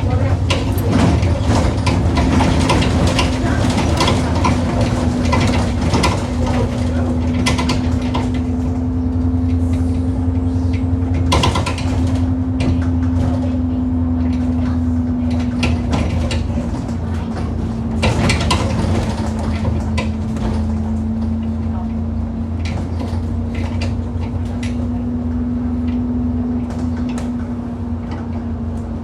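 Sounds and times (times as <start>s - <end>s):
bus engine drone: 0.0s - 29.0s
bus knocking and rattling: 0.0s - 29.0s.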